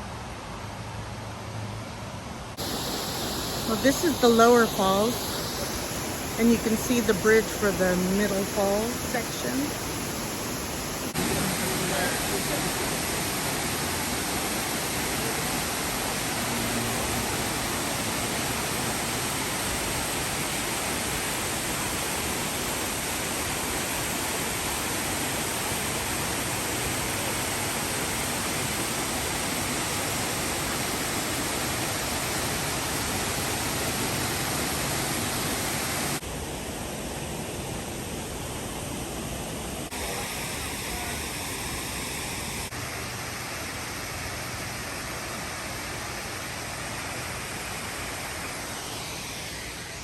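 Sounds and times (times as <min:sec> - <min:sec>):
waterfall rushing and splashing: 0:02.5 - 0:50.0.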